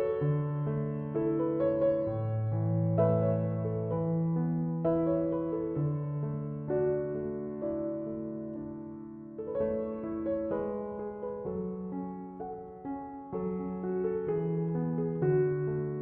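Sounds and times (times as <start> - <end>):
soft slow solo piano: 0.0 - 16.0.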